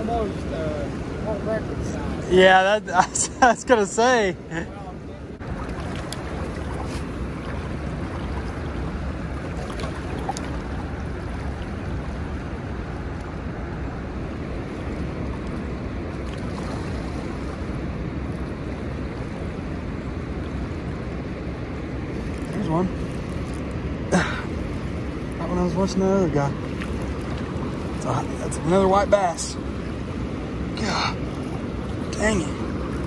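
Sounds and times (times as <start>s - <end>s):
fast-flowing river current: 0.0s - 33.0s.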